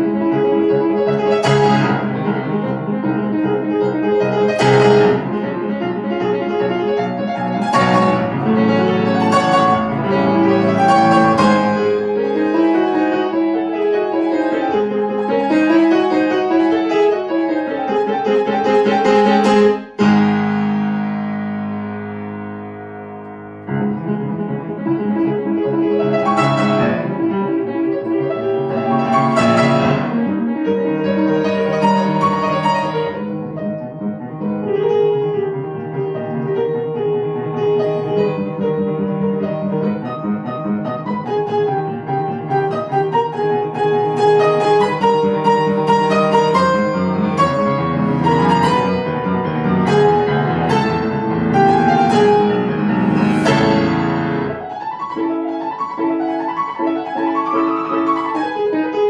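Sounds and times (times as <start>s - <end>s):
grand piano classical piece: 0.0s - 59.0s.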